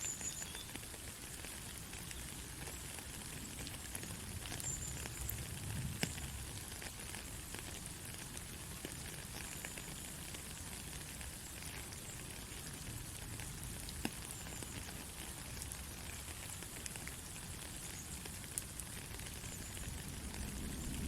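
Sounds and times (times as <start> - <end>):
soft rain pattering: 0.0 - 21.0.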